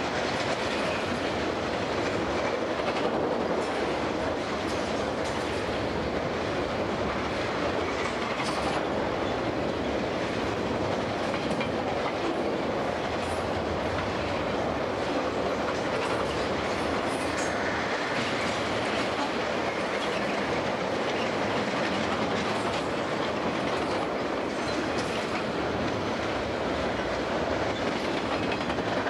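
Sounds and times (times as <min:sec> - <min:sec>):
steel wheels rumbling on rails: 0:00.0 - 0:29.0.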